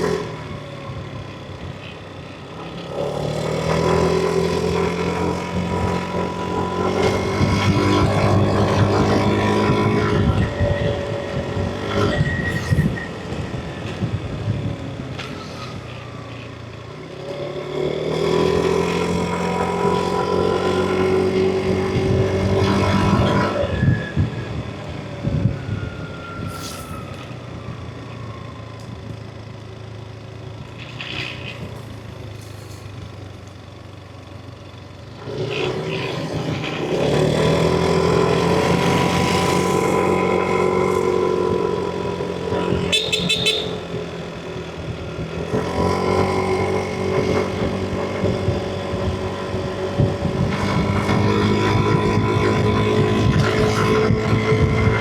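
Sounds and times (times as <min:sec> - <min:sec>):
scooter engine running: 0:00.0 - 0:26.4, 0:27.3 - 0:55.0
road noise: 0:00.0 - 0:55.0.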